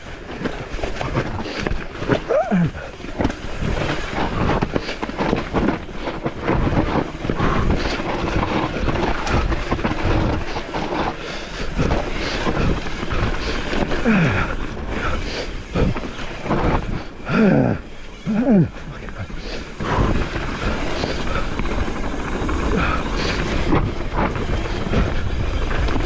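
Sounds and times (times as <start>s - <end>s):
bike knocking and rattling: 0.0s - 26.0s
tyres rushing on rough trail: 0.0s - 26.0s
wind buffeting microphone: 0.0s - 26.0s.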